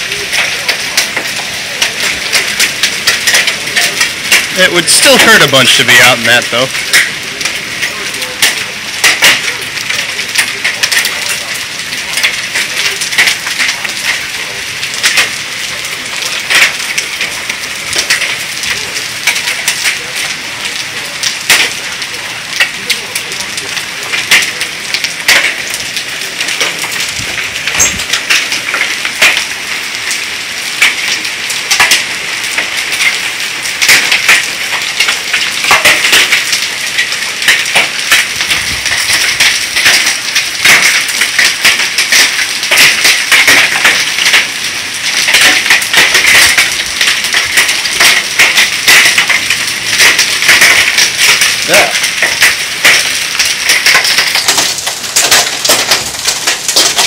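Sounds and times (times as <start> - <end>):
hailstones striking hard surfaces: 0.0 - 57.0
heavy rain: 0.0 - 57.0.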